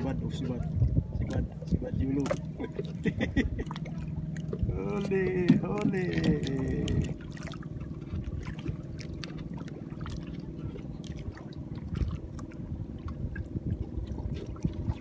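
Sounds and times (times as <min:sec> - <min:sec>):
steady low rumble: 0:00.0 - 0:15.0
water slapping against boat hull: 0:00.0 - 0:15.0.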